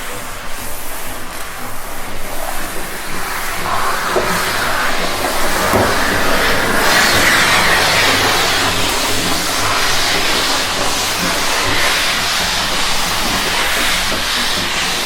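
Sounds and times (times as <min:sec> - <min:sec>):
steam cleaner hissing: 0:00.0 - 0:15.0.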